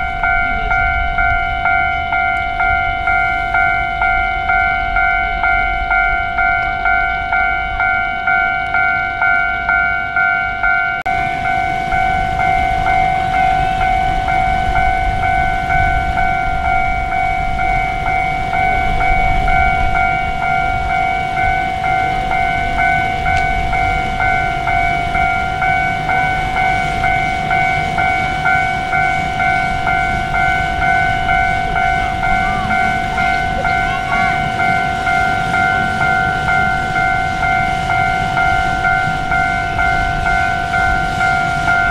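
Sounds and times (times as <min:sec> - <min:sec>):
high ringing tone: 0:00.0 - 0:41.9
steam locomotive rhythmic beat: 0:00.0 - 0:41.9.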